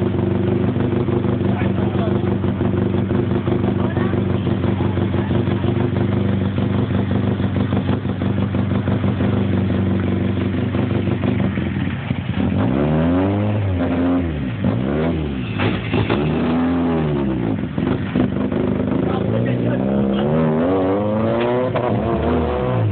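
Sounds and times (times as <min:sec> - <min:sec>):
rally car engine idling and revving: 0:00.0 - 0:22.9.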